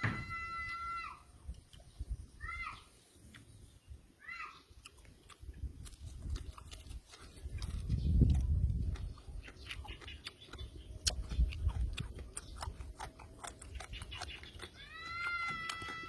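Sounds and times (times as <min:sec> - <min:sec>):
close-miked chewing: 0:01.3 - 0:04.0, 0:04.6 - 0:16.0.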